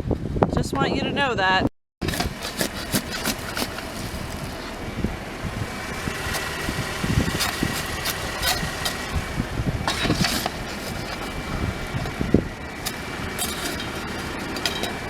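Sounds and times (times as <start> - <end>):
vehicle engine running: 2.0 - 15.0.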